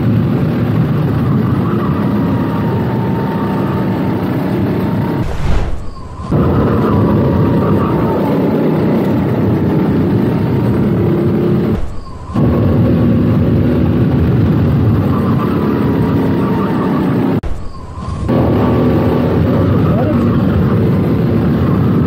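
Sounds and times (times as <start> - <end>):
go-kart engine running hard: 0.0 - 5.2, 6.2 - 22.0.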